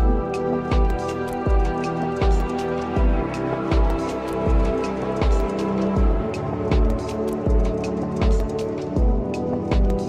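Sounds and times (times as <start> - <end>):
deep drum beat: 0.0 - 10.0.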